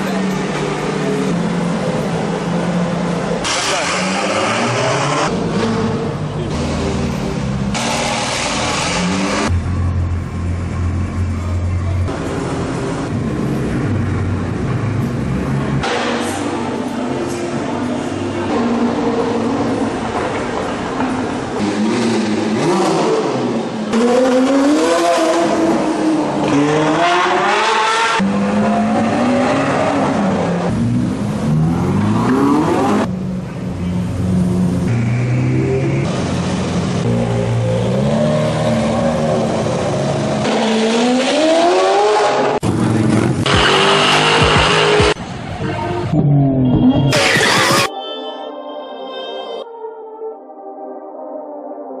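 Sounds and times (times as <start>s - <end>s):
supercar engines revving: 0.0s - 45.4s.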